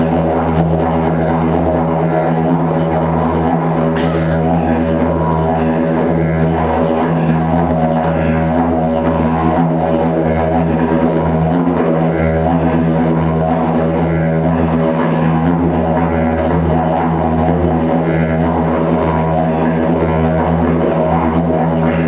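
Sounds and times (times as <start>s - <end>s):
didgeridoo drone: 0.0s - 22.0s.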